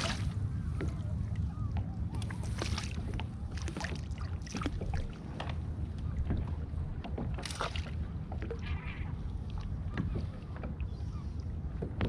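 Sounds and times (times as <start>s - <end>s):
water lapping against kayak hull: 0.0s - 12.0s
wind rumbling on microphone: 0.0s - 12.0s.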